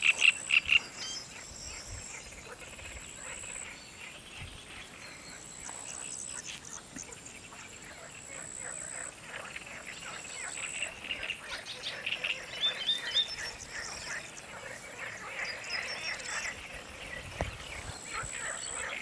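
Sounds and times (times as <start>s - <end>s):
birds calling: 0.0s - 19.0s
frogs croaking: 0.0s - 19.0s.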